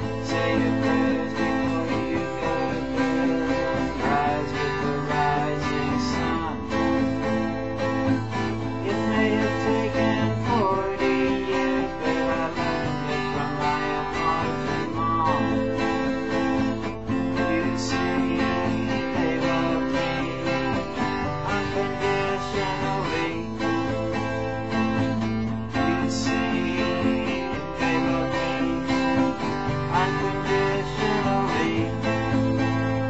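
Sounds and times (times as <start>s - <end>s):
acoustic guitar strumming: 0.0s - 33.0s
man singing: 0.0s - 33.0s.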